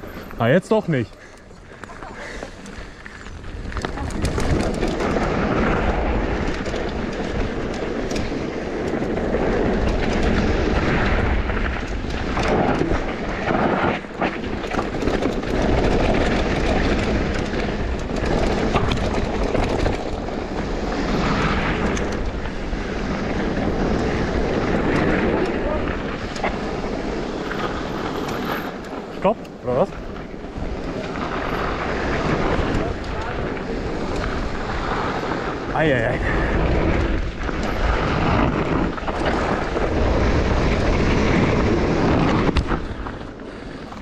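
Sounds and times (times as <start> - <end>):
bike rattles and knocks: 0.0 - 44.0
bike tyres rolling over gravel: 0.0 - 44.0.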